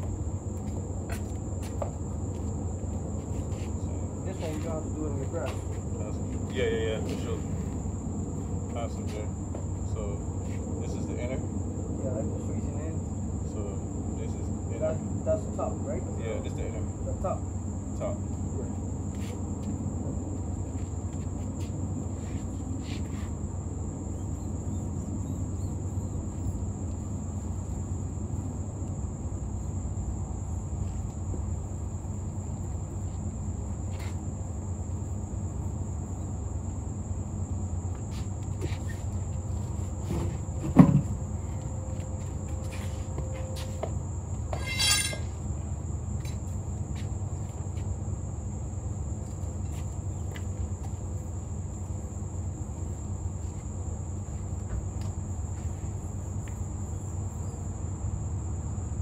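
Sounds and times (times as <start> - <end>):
insects trilling: 0.0 - 59.0
low background rumble: 0.0 - 59.0.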